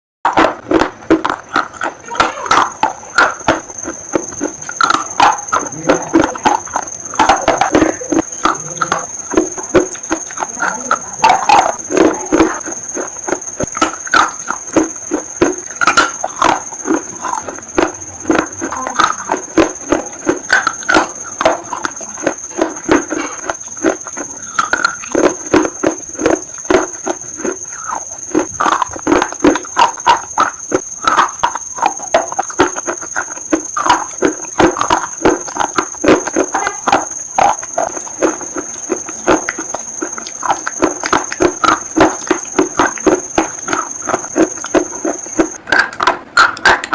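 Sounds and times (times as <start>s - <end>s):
thin high-pitched whine: 0.3s - 46.0s
crunching and chewing: 0.3s - 46.9s
wet mouth clicks: 0.3s - 46.9s.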